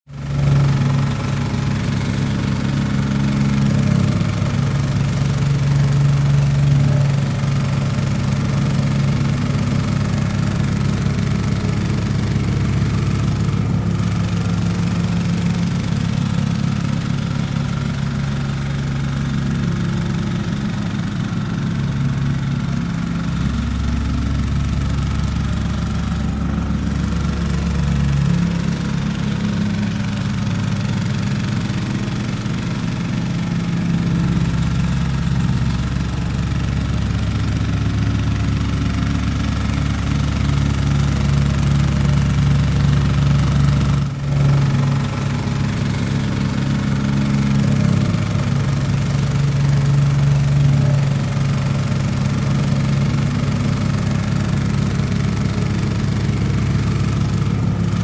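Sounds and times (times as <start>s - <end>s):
diesel engine running: 0.1s - 58.0s.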